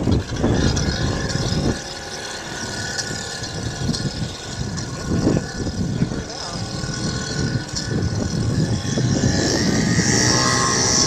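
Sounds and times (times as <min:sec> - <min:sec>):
small engine high drone: 0:00.0 - 0:11.0.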